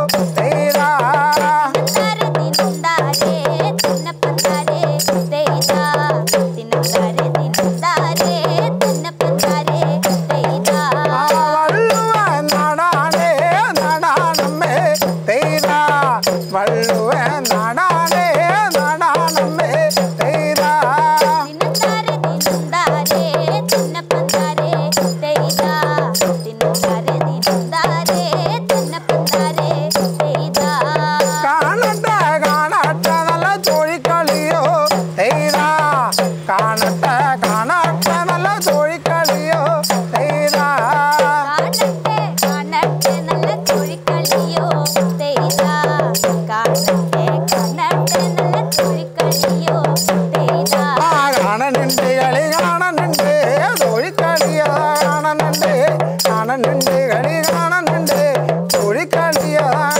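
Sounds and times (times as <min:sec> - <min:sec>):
fast drum beat: 0:00.0 - 0:59.9
folk singing: 0:00.0 - 0:59.9.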